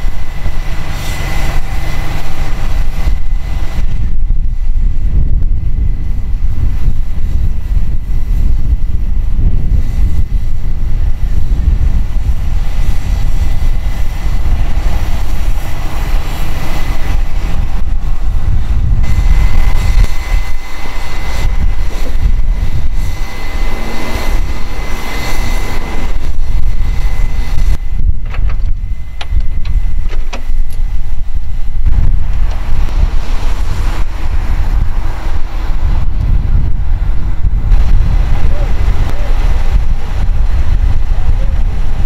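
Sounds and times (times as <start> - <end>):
diesel engines rumbling: 0.0 - 42.0
faint steady whine: 0.0 - 42.0
wind buffeting microphone: 0.0 - 42.0.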